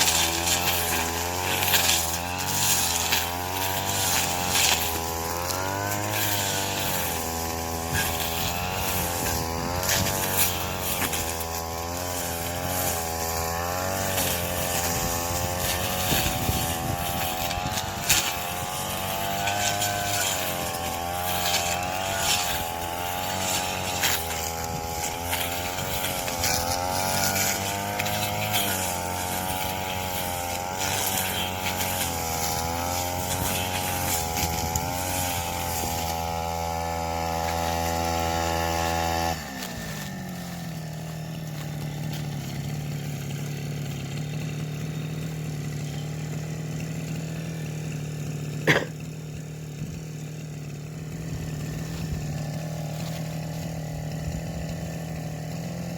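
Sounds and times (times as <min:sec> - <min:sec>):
cutting machine engine under load: 0:00.0 - 0:55.9.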